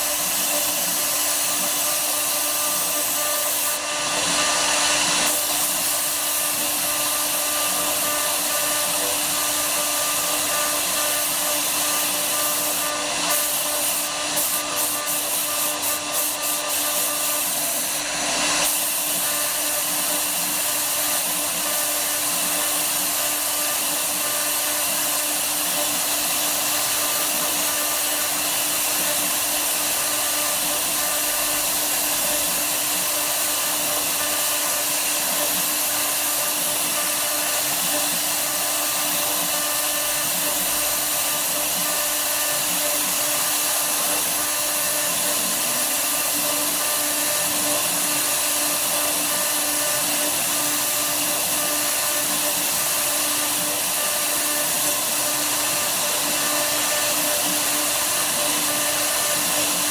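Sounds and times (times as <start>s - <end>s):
cnc router running: 0.0s - 59.9s.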